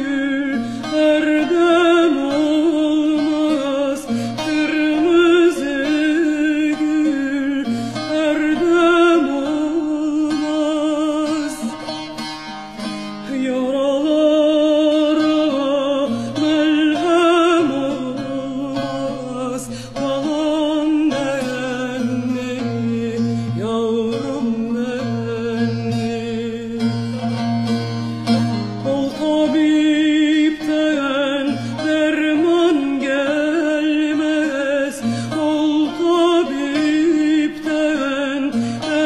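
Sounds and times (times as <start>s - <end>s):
folk song with instruments: 0.0s - 39.0s.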